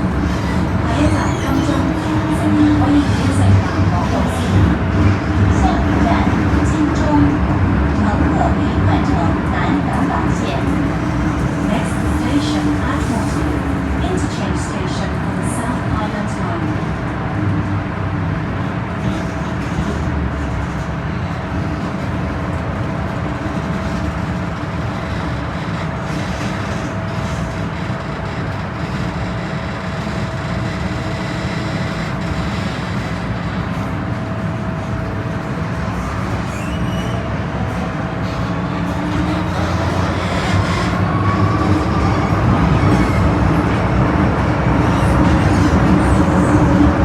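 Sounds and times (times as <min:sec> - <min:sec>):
train wheels rumbling: 0:00.0 - 0:47.0.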